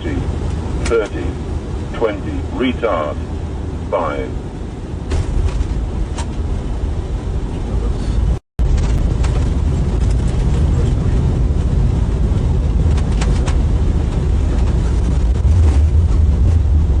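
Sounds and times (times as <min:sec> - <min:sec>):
airliner landing rollout rumble: 0:00.0 - 0:17.0.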